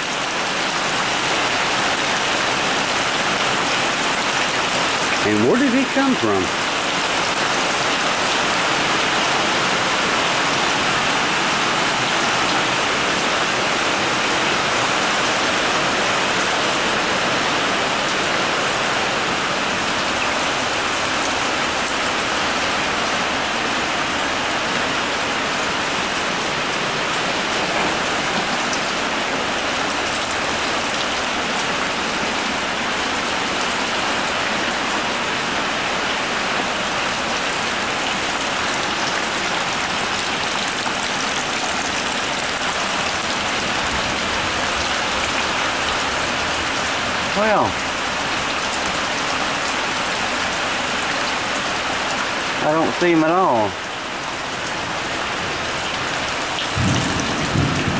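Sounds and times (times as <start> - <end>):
rain falling steadily: 0.0 - 57.9.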